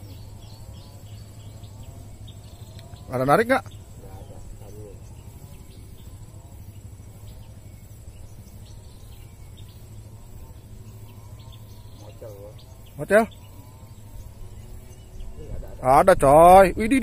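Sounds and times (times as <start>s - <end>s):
faint chirps: 0.0s - 17.0s
high insect whine: 0.0s - 17.0s.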